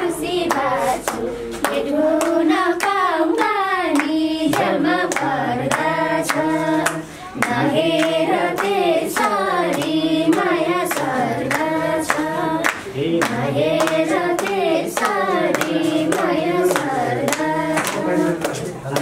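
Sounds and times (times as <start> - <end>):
hand claps: 0.0 - 19.0
voices singing folk song: 0.0 - 19.0.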